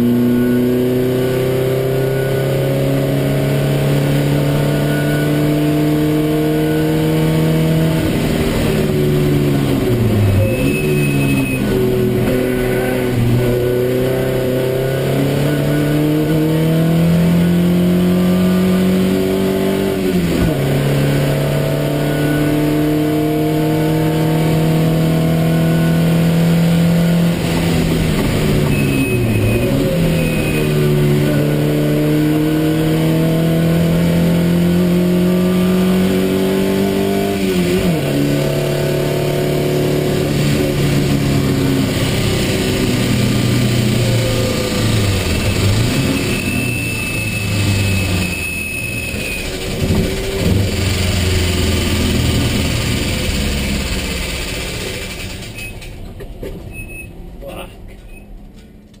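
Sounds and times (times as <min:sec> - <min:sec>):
race car engine at full throttle: 0:00.0 - 0:59.0
wind and road noise: 0:00.0 - 0:59.0.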